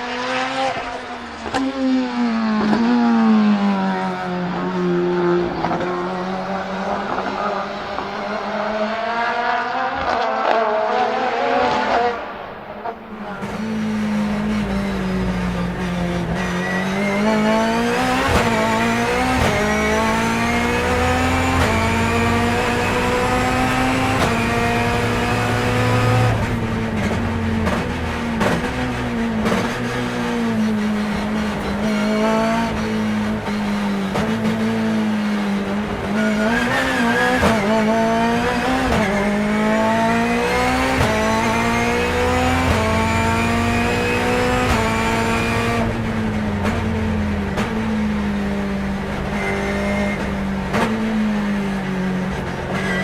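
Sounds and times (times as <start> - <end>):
race car engine at full throttle: 0.0 - 53.0.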